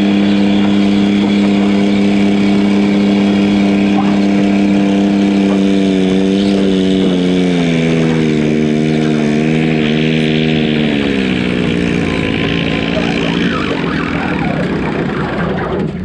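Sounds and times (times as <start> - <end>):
diesel tractor engine under load: 0.0 - 16.0.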